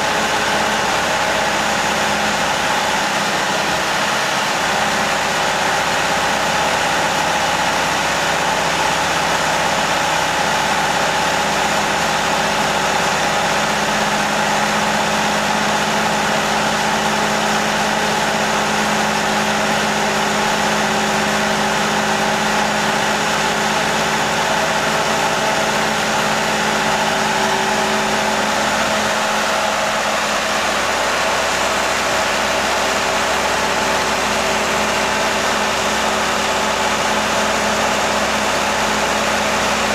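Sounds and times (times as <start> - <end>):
hoist engine running: 0.0 - 39.9.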